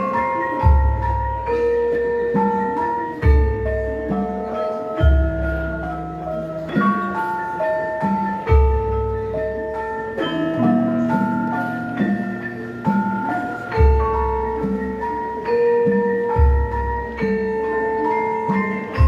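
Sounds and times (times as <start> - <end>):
gamelan ensemble playing: 0.0 - 19.0.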